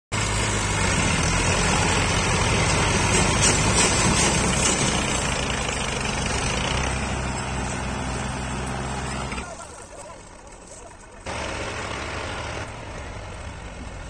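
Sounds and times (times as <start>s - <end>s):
tractor diesel engines under load: 0.1s - 14.0s.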